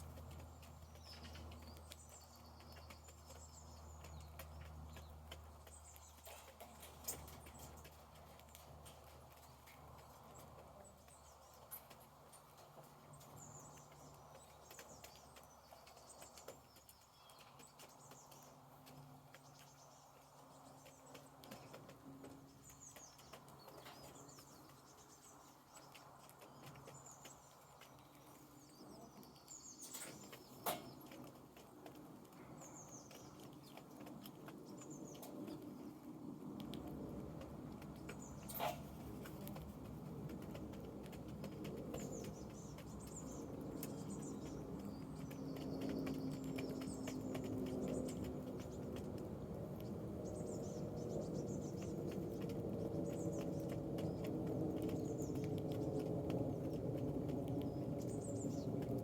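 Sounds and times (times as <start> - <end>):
light taps and clicks: 0.0 - 59.0
small birds chirping: 0.0 - 59.0.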